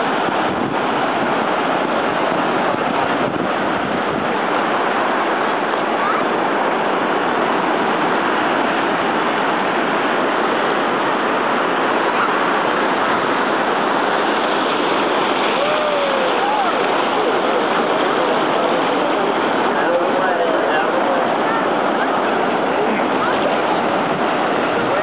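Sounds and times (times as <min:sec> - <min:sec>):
ocean surf breaking: 0:00.0 - 0:25.0.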